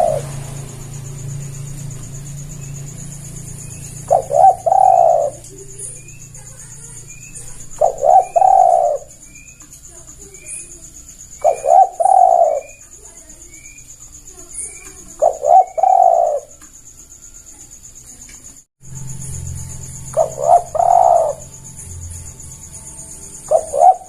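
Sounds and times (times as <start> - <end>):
dove cooing: 0.0 - 16.6, 20.0 - 21.6, 22.4 - 24.0
high-pitched insect-like tone: 0.0 - 24.0
small birds chirping: 0.0 - 24.0.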